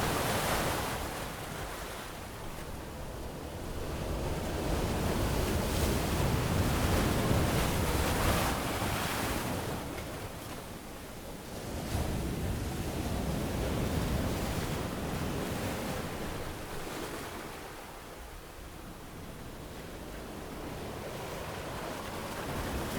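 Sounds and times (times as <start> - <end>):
ocean waves washing onto beach: 0.0 - 22.9.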